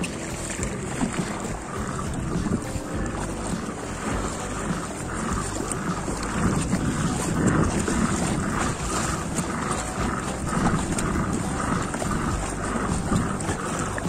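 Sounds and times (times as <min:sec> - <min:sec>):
water washing around kayak: 0:00.0 - 0:14.0
wind on microphone: 0:00.0 - 0:14.0.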